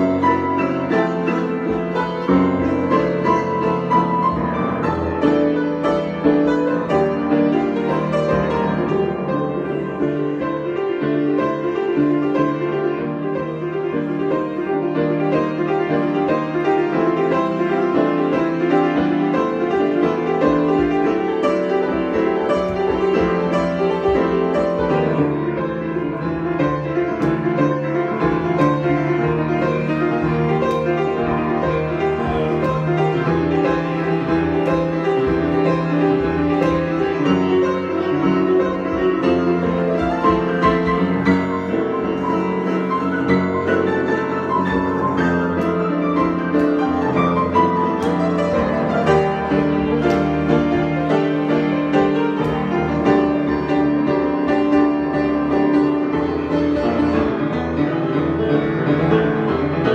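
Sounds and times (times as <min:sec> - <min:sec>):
grand piano improvisation: 0:00.0 - 0:59.9.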